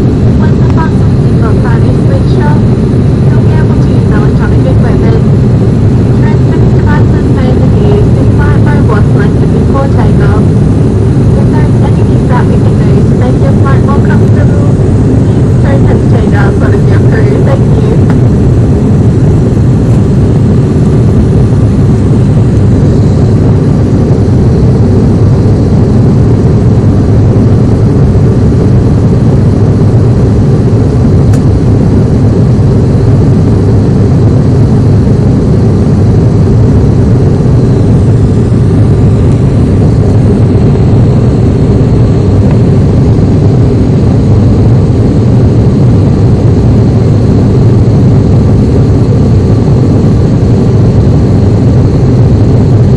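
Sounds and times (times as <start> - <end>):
aircraft engine drone in cabin: 0.0 - 52.9.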